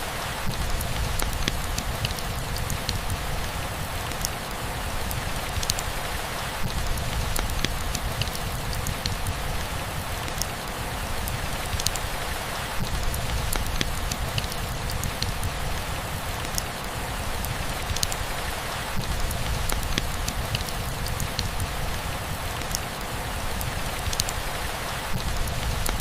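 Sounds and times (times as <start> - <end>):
steady rainfall: 0.0 - 26.0
sharp water drips: 0.3 - 26.0.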